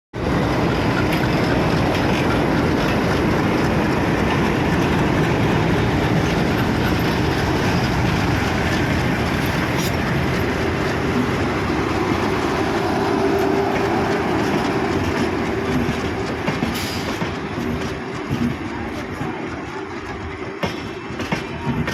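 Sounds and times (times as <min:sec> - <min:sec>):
train wheels rumbling on rails: 0:00.2 - 0:21.9.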